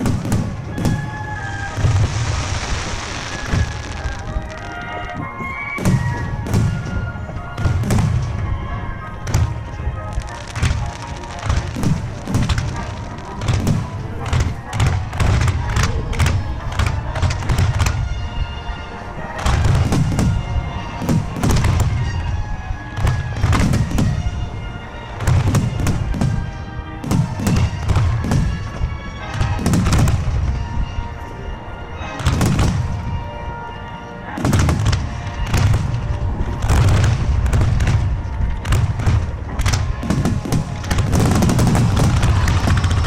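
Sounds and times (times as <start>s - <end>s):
fireworks booms and cracks: 0.0s - 31.2s, 32.1s - 33.2s, 34.4s - 43.0s.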